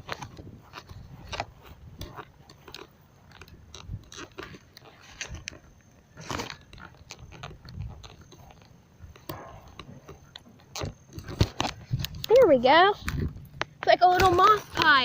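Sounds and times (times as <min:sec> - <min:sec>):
crunches and clicks: 0:00.0 - 0:15.0.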